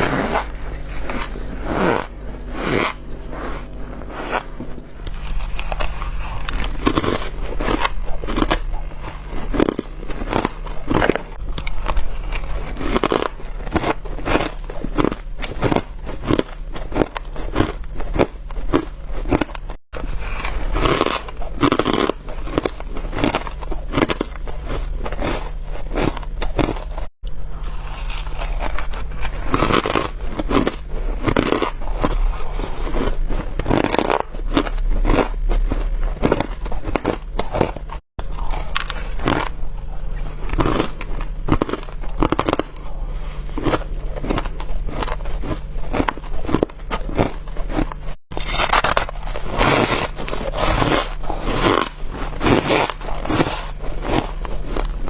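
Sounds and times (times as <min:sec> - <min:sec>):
frost being chewed crunchily: 0:00.0 - 0:55.0.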